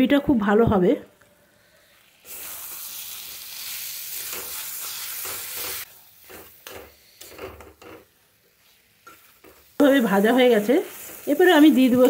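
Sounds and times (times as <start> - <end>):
potatoes sizzling in hot oil: 1.6 - 12.0.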